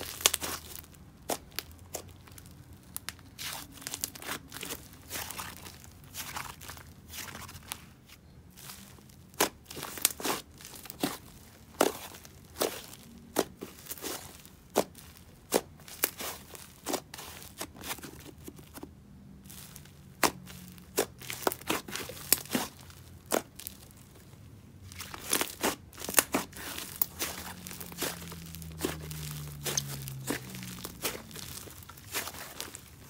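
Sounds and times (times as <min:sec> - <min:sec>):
slime popping and crackling: 0:00.0 - 0:07.7, 0:09.3 - 0:18.4, 0:19.5 - 0:24.1, 0:24.9 - 0:33.0.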